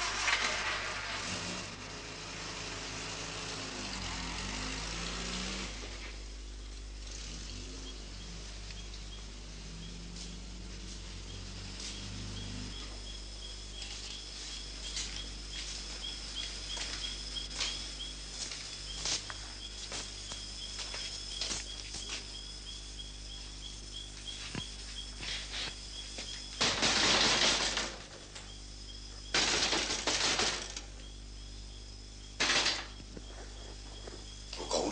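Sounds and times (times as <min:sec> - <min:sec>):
low continuous hum: 0:00.0 - 0:34.9.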